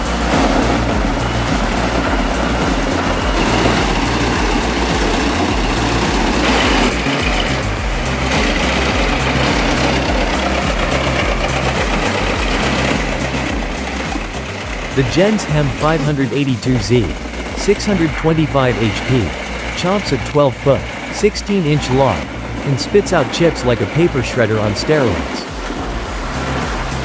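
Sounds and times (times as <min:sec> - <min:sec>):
background music with bass line: 0:00.0 - 0:27.0
heavy machinery diesel engine: 0:00.0 - 0:27.0.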